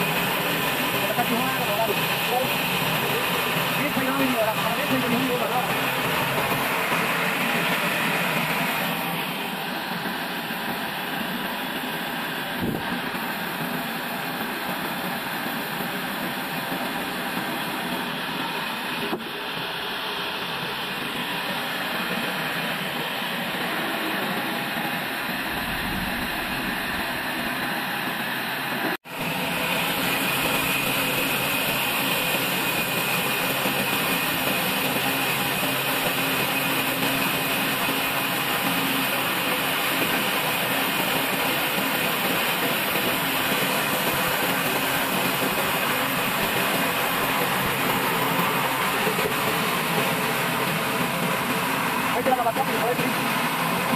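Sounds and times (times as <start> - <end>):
bandsaw sawmill running: 0.0 - 53.9.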